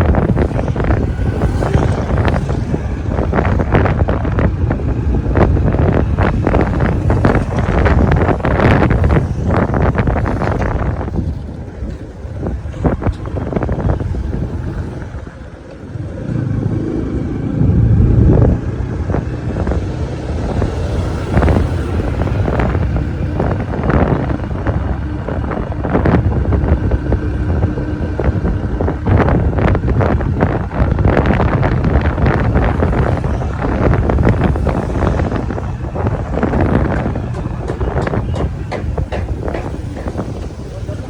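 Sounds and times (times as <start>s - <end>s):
road traffic rumble: 0.0s - 41.0s
wind buffeting microphone: 0.0s - 41.0s.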